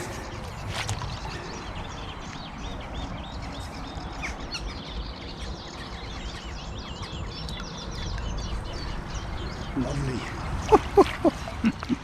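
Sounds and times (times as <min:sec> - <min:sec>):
small songbirds singing: 0:00.0 - 0:12.0.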